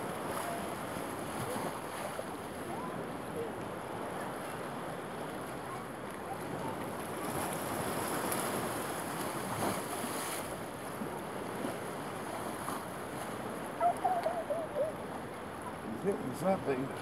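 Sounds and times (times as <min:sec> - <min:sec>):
waves washing against pier: 0:00.0 - 0:17.0.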